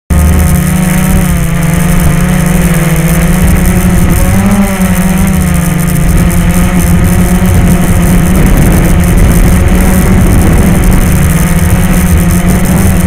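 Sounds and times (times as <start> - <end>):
quadcopter motors buzzing: 0.1 - 13.0.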